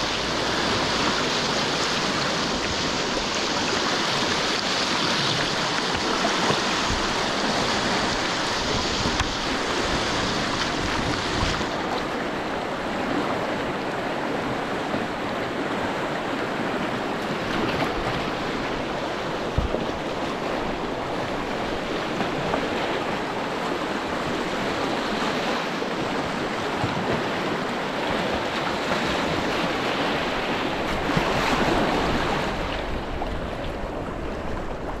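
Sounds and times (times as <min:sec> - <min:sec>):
paddle strokes splashing: 0:00.0 - 0:35.0
river rapid rushing: 0:00.0 - 0:35.0.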